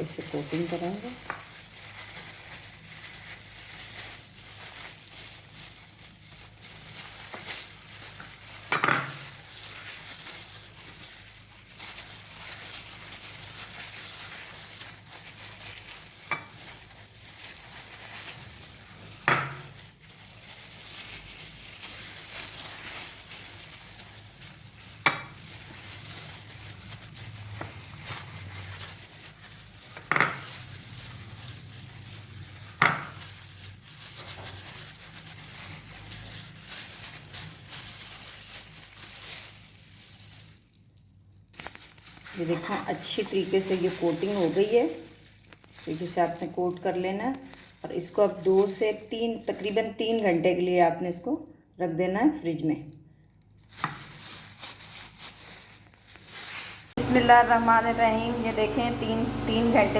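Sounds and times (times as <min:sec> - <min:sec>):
chicken mixed in marinade: 0:00.0 - 0:51.3, 0:52.9 - 0:59.9.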